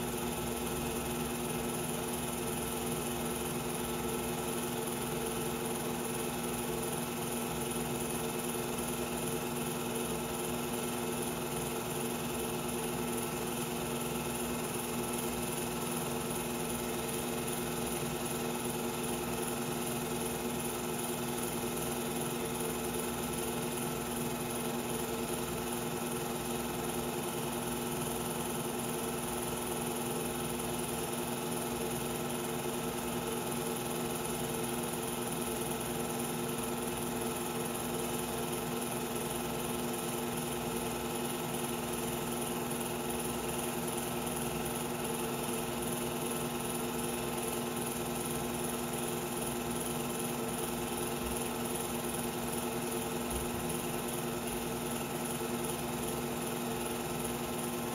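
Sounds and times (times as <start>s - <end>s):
film projector whirring: 0.0s - 57.9s.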